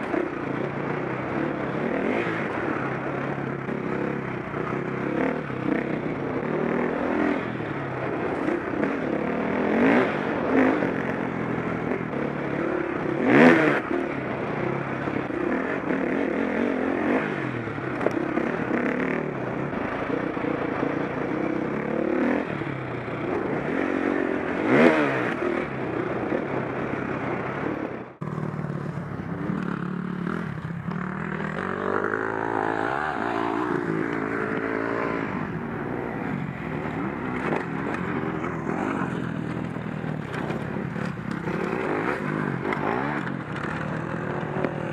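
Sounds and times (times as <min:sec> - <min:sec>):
motocross engine revving: 0:00.0 - 0:22.7, 0:23.3 - 0:44.9.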